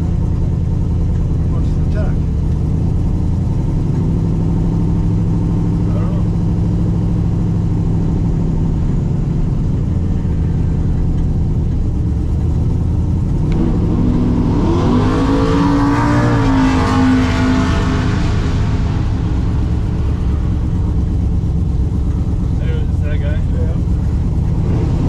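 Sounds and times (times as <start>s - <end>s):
truck engine idling: 0.0s - 15.3s, 17.0s - 25.0s
second vehicle engine rising: 0.0s - 25.0s.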